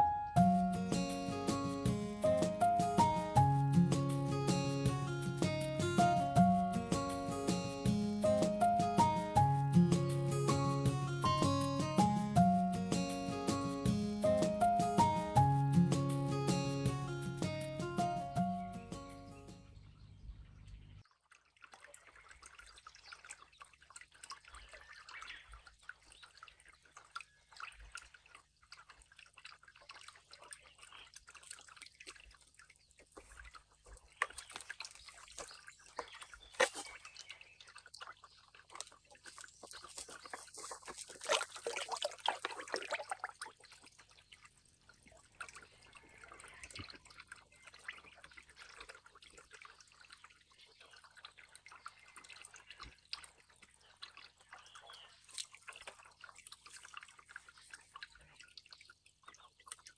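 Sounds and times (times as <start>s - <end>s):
water dripping into pond: 0.0s - 17.0s, 18.0s - 59.9s.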